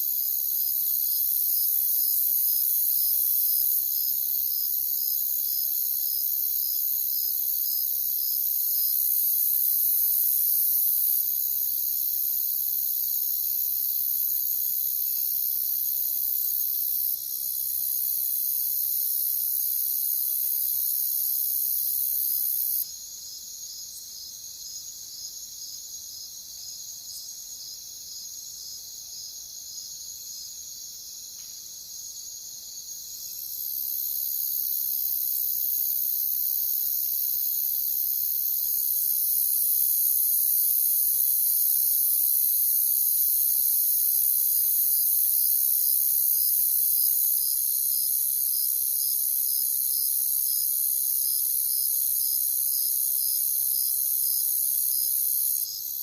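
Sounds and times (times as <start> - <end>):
crickets chirping in chorus: 0.0 - 56.0.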